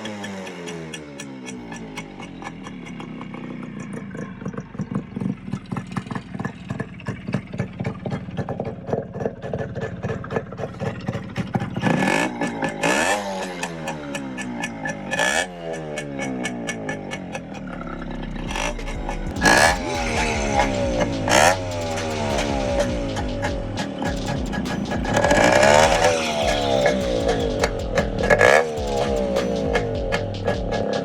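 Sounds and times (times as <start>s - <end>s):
two-stroke engine idling and revving: 0.0s - 31.0s.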